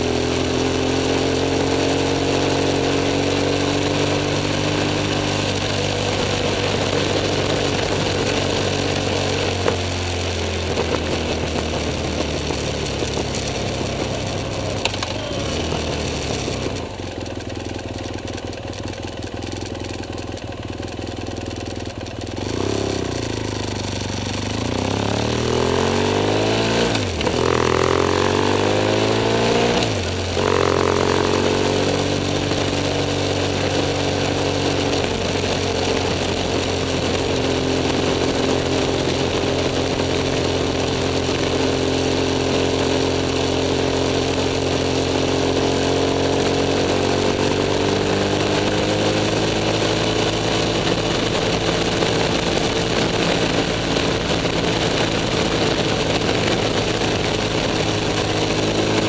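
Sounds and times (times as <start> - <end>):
motorcycle engine pulling under throttle: 0.0 - 59.0.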